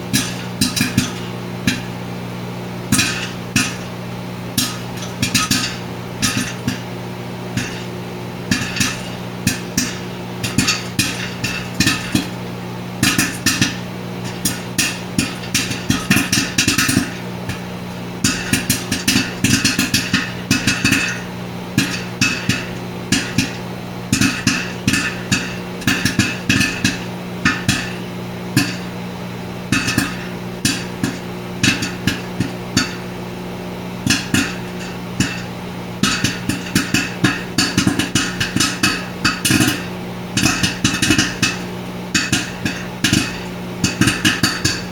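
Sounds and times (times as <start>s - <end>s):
microwave oven humming: 0.0s - 44.9s
popcorn kernels popping: 0.1s - 2.0s, 2.9s - 4.0s, 4.6s - 6.9s, 7.5s - 29.0s, 29.7s - 33.2s, 34.0s - 44.9s.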